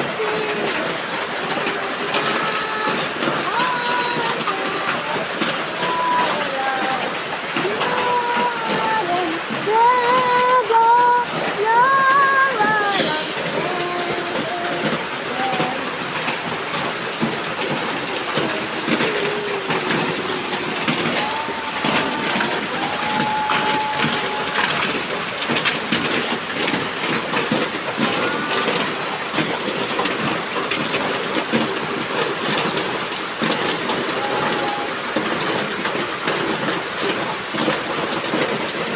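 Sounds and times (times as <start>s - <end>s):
heavy rain falling: 0.0s - 38.9s
sharp raindrop impacts: 0.0s - 38.9s.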